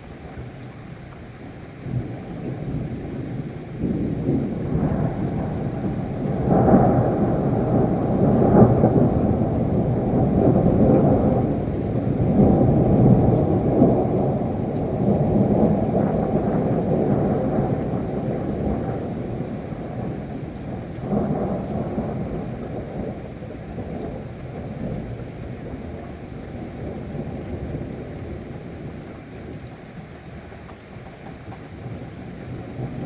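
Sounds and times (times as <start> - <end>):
steady rain: 0.0 - 33.0
rolling thunder: 1.8 - 29.6, 31.7 - 33.0.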